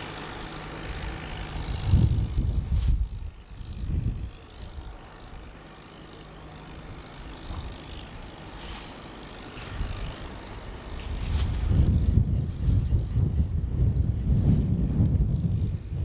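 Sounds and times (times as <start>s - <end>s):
locomotive engine rumbling: 0.0s - 16.0s.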